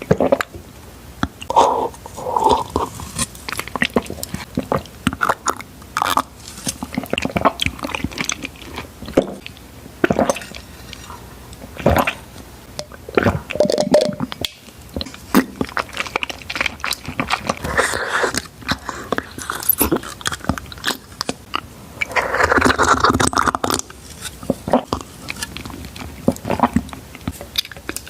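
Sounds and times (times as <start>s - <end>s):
person chewing tapioca pearls: 1.2s - 28.0s.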